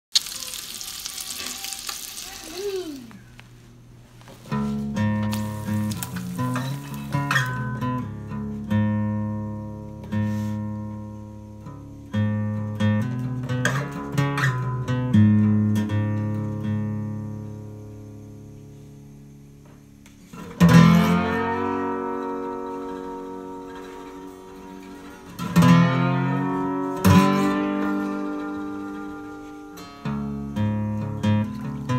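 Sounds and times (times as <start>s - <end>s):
acoustic guitar picking: 3.1s - 31.9s.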